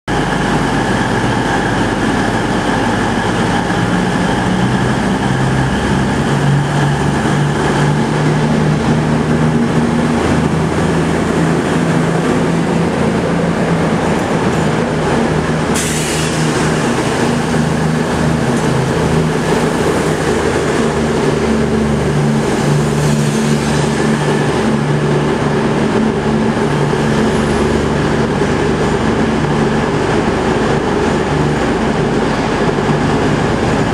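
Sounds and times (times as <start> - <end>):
diesel train engines droning: 0.1 - 33.9.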